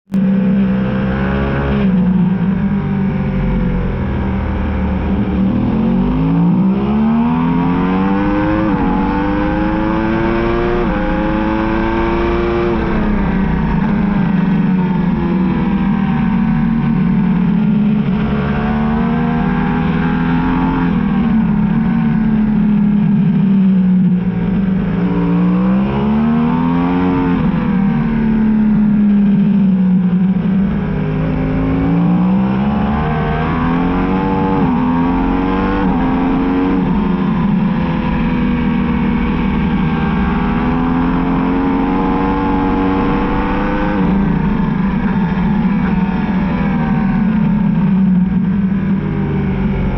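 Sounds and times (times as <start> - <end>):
motorcycle engine accelerating hard: 0.1 - 49.9.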